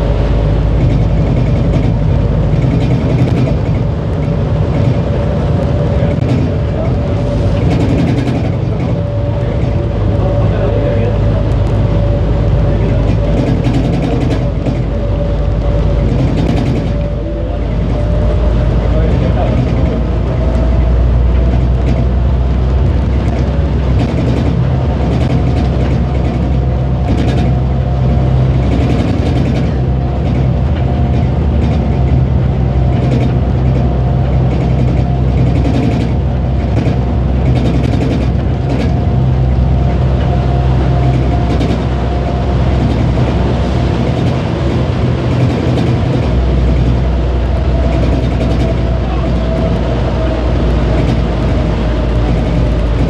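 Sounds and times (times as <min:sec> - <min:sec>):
train motor hum: 0:00.0 - 0:53.0.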